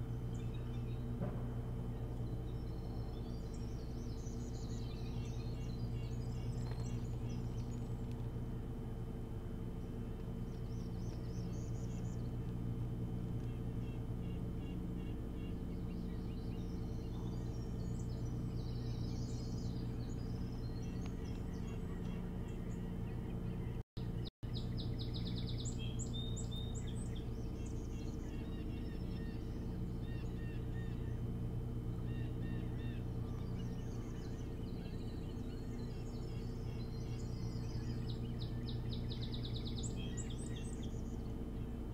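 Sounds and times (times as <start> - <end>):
birds chirping and trilling: 0.0 - 41.9
steady low hum: 0.0 - 41.9.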